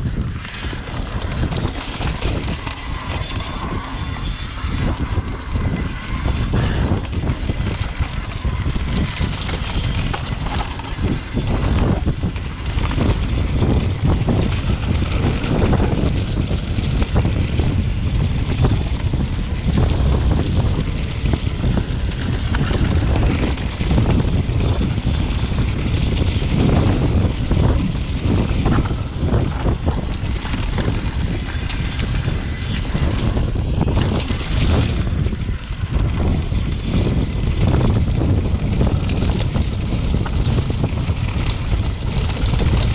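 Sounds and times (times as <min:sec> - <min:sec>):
bike rattling and knocking: 0:00.0 - 0:42.9
tyres rolling over dirt trail: 0:00.0 - 0:42.9
wind buffeting microphone: 0:00.0 - 0:42.9.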